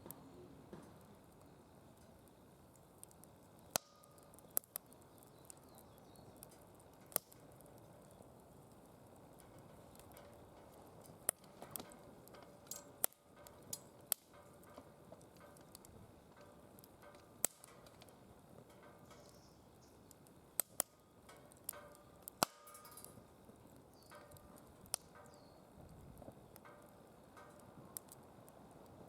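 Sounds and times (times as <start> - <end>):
firewood crackling and popping: 0.0 - 29.0
flames hissing: 0.0 - 29.0.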